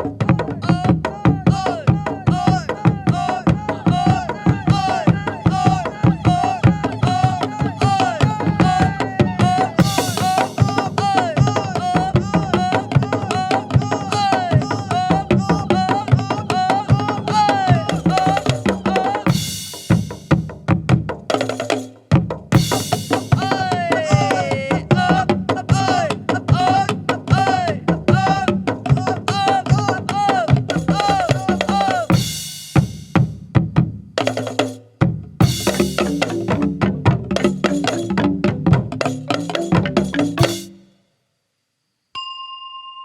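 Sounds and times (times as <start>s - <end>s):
fast drumming: 0.0s - 40.8s.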